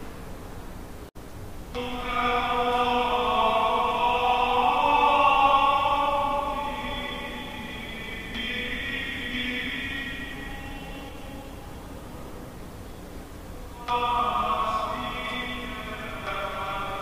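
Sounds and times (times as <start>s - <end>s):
church music with held chords: 1.7s - 17.0s.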